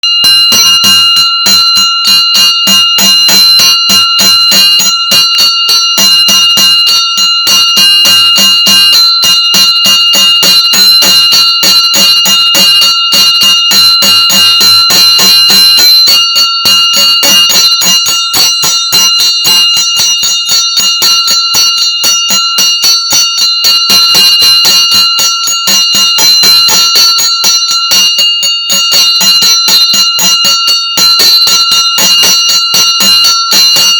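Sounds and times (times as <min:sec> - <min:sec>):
hand bell ringing rapidly: 0:00.0 - 0:33.9.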